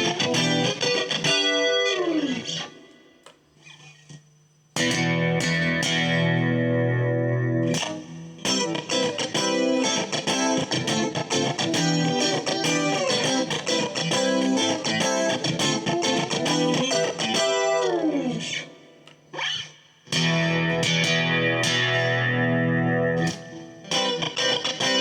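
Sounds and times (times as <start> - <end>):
clean electric guitar: 0.0 - 4.2, 4.8 - 25.0.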